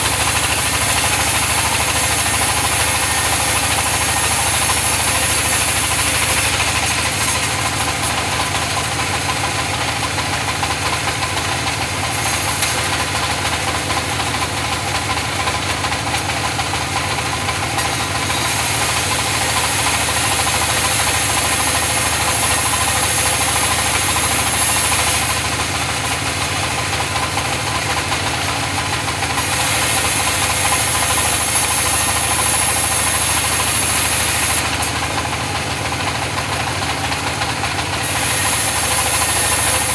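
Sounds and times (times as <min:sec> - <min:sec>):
saw cutting wood hiss: 0:00.0 - 0:14.2, 0:17.5 - 0:27.3, 0:29.2 - 0:36.0, 0:37.7 - 0:39.9
sawmill engine hum: 0:00.0 - 0:39.9.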